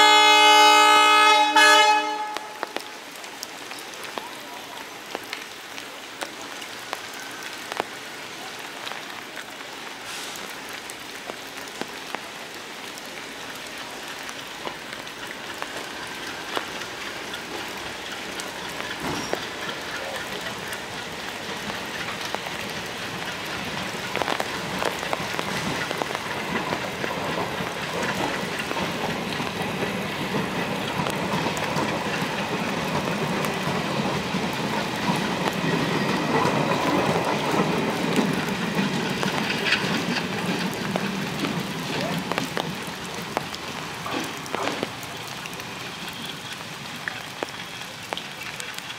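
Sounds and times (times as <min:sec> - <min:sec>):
steady rain: 0:00.0 - 0:48.9
train rumble: 0:00.0 - 0:48.9
rain drop ticks: 0:02.1 - 0:48.9.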